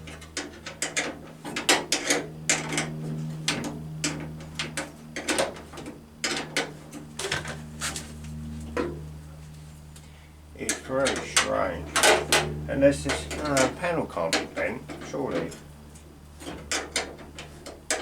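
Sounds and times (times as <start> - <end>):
low hum: 1.9 - 18.0.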